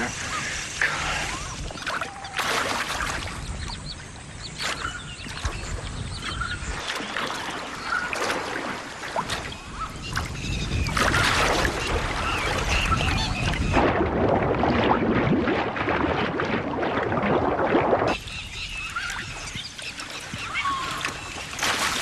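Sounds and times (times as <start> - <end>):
water splashing: 0.0 - 22.0.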